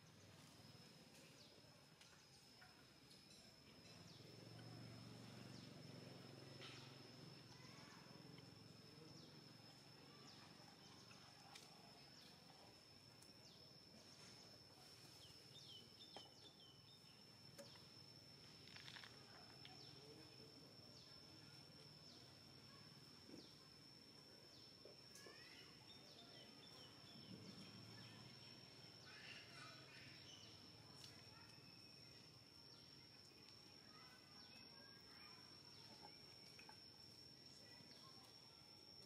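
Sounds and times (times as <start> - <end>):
high-pitched insect drone: 0.4 - 39.0.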